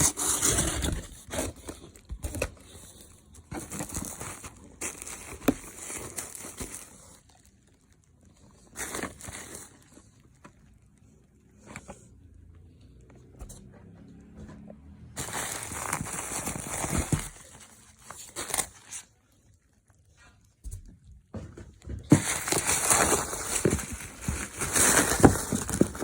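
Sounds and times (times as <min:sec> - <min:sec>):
packaging crinkling and rustling: 0:00.0 - 0:12.0, 0:15.2 - 0:20.6, 0:22.1 - 0:26.0.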